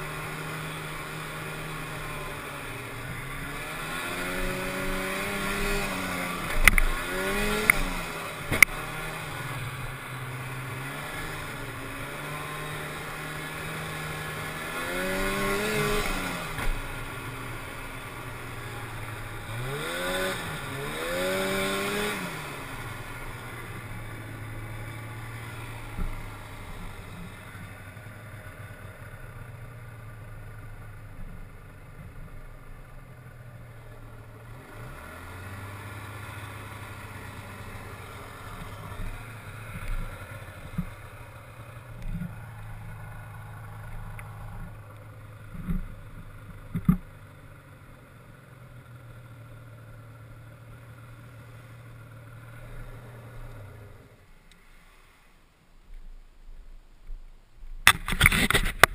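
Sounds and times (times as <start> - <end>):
snowmobile engine running: 0.0 - 55.1.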